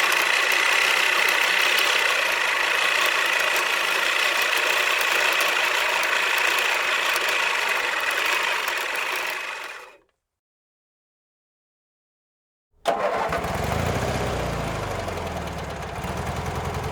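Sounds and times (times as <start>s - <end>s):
lawn mower engine running: 0.0s - 10.0s, 12.8s - 16.9s.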